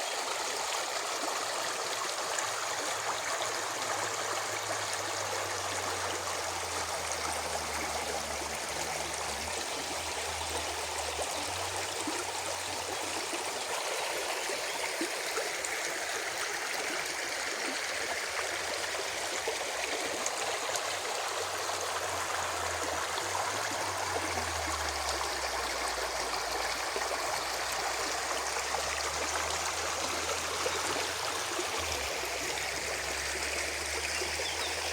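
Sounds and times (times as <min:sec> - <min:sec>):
water gurgling over stones: 0:00.0 - 0:34.9.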